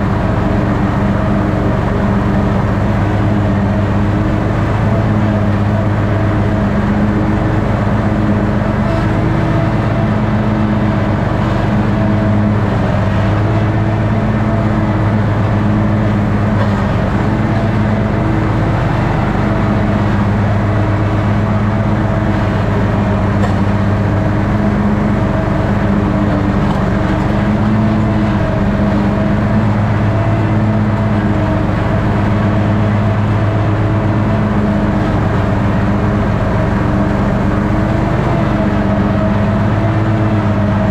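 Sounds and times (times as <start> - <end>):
ride-on mower engine droning: 0.0 - 40.9.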